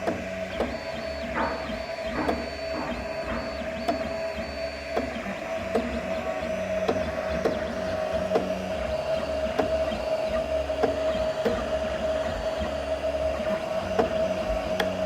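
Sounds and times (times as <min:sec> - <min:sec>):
printer motors whine: 0:00.0 - 0:15.0
stepper motor clicking: 0:00.0 - 0:15.0.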